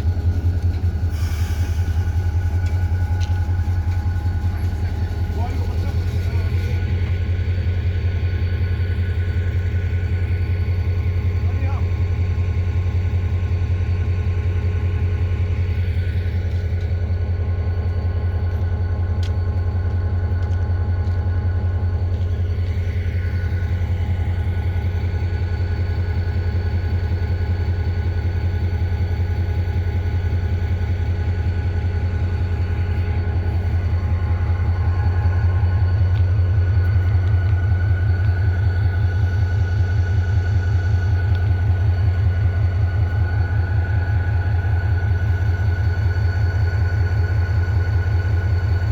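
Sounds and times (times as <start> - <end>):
locomotive engine idling: 0.0 - 48.9.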